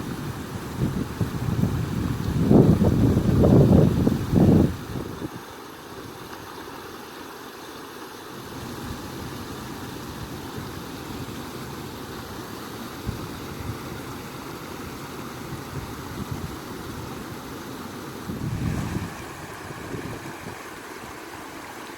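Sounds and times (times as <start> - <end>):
stream water rushing: 0.0 - 21.9.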